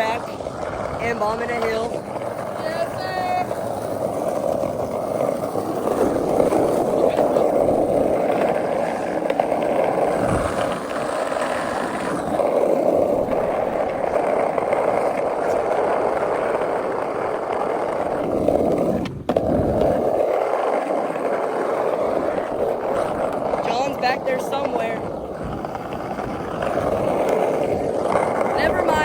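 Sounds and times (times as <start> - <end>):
skateboard wheels rolling on pavement: 0.0 - 29.0.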